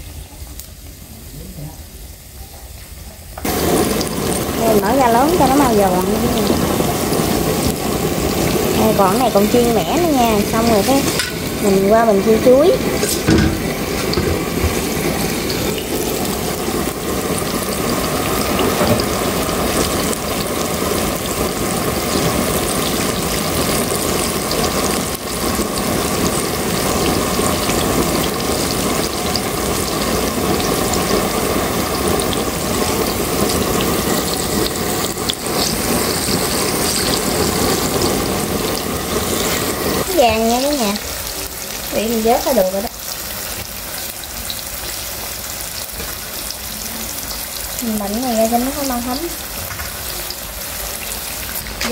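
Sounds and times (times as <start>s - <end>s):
food deep-frying in oil: 0.0s - 51.9s.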